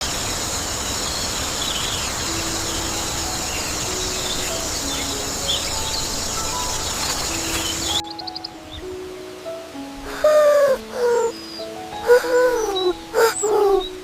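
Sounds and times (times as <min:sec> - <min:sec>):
birds chirping: 0:00.0 - 0:14.0
high insect drone: 0:00.0 - 0:14.0
soft held music notes: 0:02.1 - 0:14.0.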